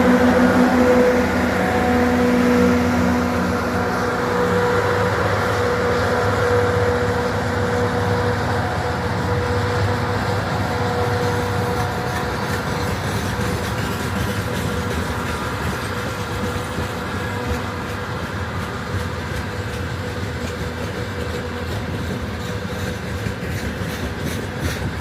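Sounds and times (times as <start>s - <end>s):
diesel locomotive engine humming: 0.0s - 25.0s
freight train rumbling past: 0.0s - 25.0s.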